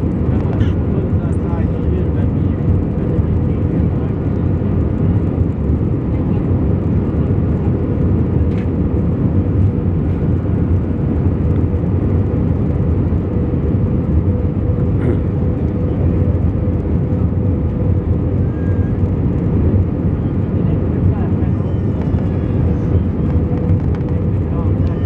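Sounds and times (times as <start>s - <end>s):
airplane engine and air rumble: 0.0s - 25.0s.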